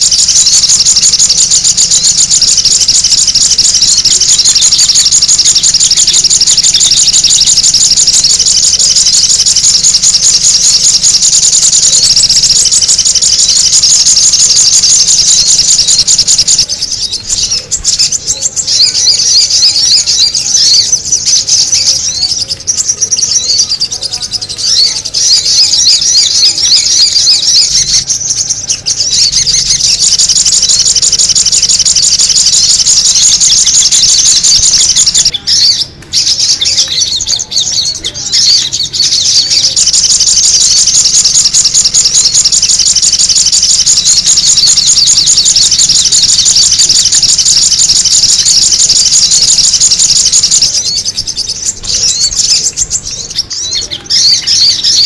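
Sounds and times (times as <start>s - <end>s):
bird chattering rapidly: 0.0s - 55.0s.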